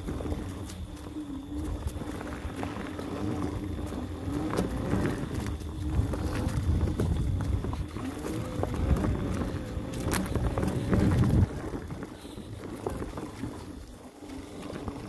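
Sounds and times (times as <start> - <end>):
bike rattles and knocks: 0.0 - 15.0
bike tyres rumbling over dirt: 0.0 - 15.0
wind buffeting microphone: 0.0 - 15.0.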